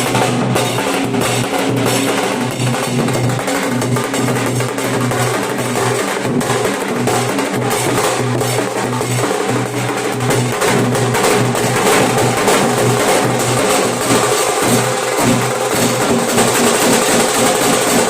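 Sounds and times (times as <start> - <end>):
dhol drums beating fast: 0.0 - 18.0.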